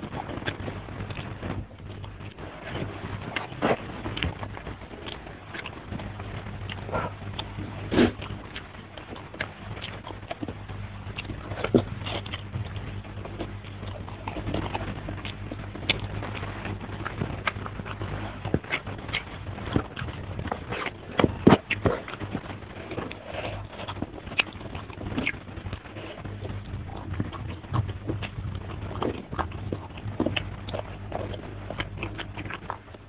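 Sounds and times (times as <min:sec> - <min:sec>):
fingers picking at food: 0:00.0 - 0:33.0
low steady hum: 0:00.0 - 0:33.0.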